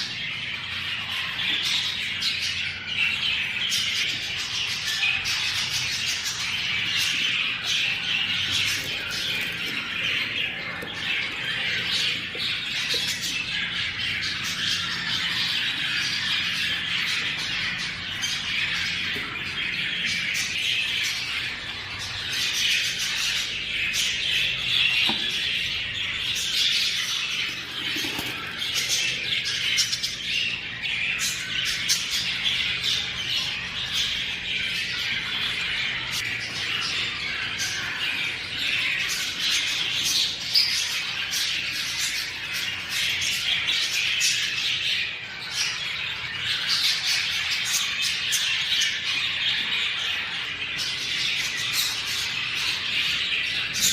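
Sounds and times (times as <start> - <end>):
budgerigars chattering and squawking: 0.0 - 53.9.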